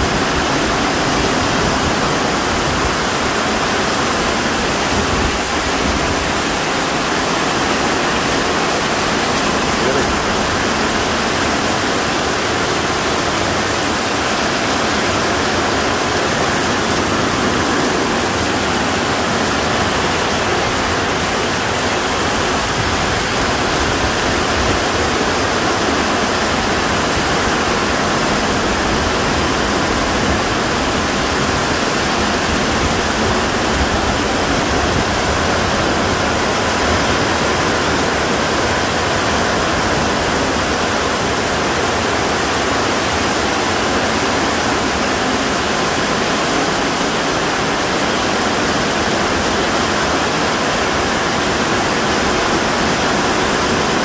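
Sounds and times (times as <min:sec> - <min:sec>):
heavy rain on a metal roof: 0:00.0 - 0:54.0
water pouring off roof edge: 0:00.0 - 0:54.0.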